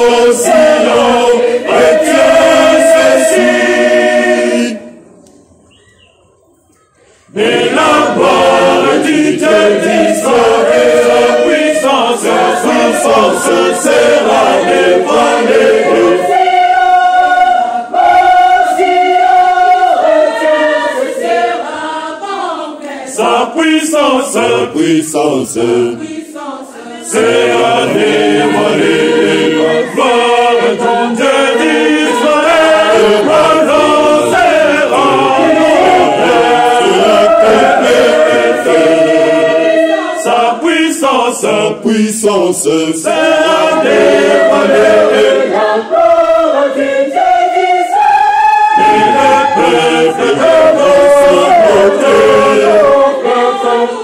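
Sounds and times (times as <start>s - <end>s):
mixed choir singing: 0.0s - 5.8s, 7.2s - 54.0s.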